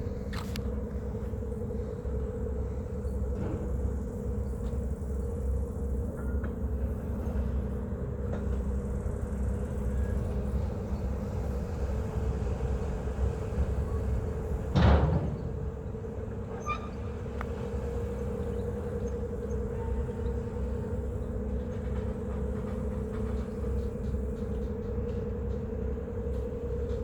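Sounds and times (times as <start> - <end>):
low engine hum with whine: 0.0 - 27.0.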